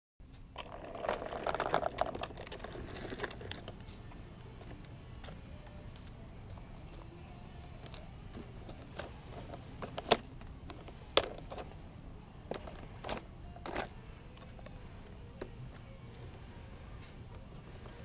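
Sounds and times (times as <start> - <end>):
faint low hum: 0.2 - 18.0.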